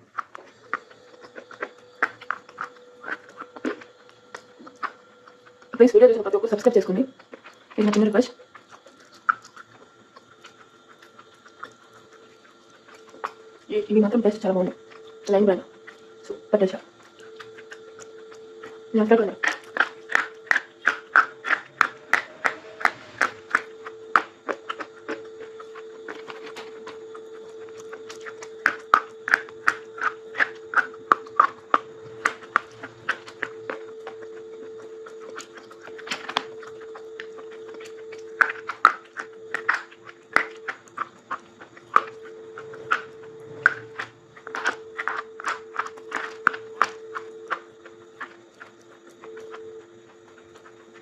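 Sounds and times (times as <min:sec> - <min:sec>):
crunchy food being chewed: 0:00.0 - 0:51.0
faint hum: 0:00.0 - 0:51.0.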